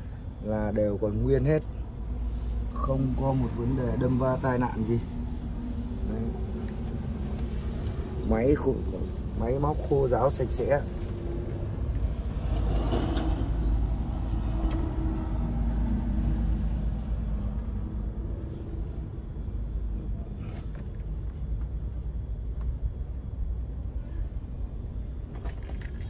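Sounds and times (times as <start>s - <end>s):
low outdoor background rumble: 0.0s - 26.0s.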